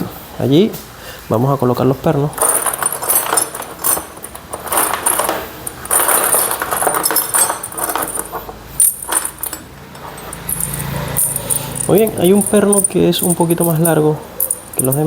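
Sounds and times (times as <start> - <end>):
steel bolts clinking and rattling: 2.3 - 15.0.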